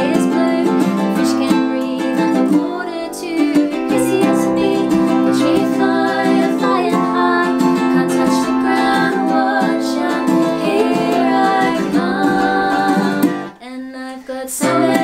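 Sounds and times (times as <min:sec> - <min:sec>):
acoustic guitar: 0:00.0 - 0:15.0
ukulele: 0:00.0 - 0:15.0
women singing: 0:00.0 - 0:15.0.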